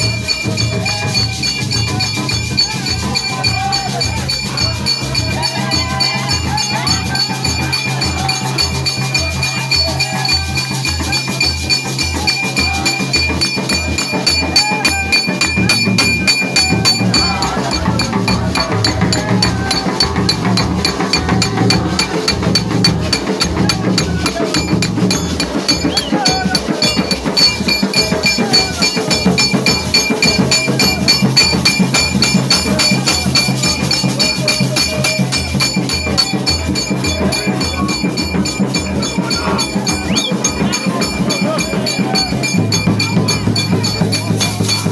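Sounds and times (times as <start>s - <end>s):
crowd singing: 0.0s - 44.9s
large hand drums beating: 0.0s - 44.9s.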